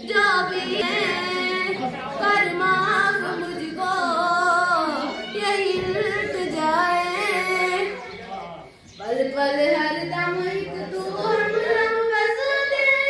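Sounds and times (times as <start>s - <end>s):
girl singing: 0.0s - 8.2s, 9.0s - 13.0s.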